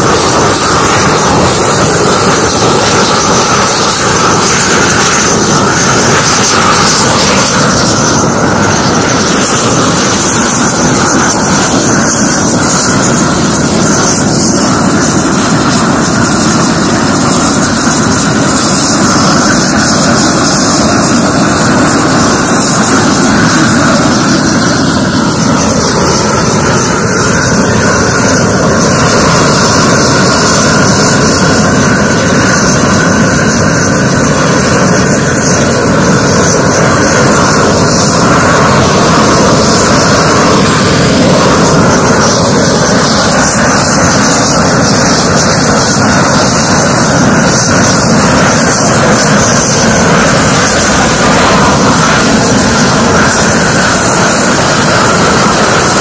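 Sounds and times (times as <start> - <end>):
gas torch burning loudly: 0.0 - 56.0.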